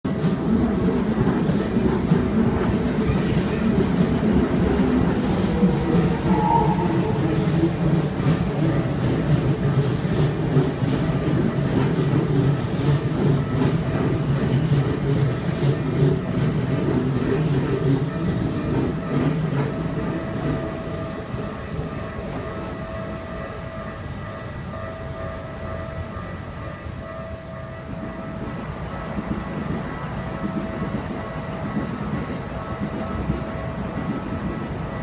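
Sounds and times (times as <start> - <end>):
train rumbling past: 0.1 - 35.0.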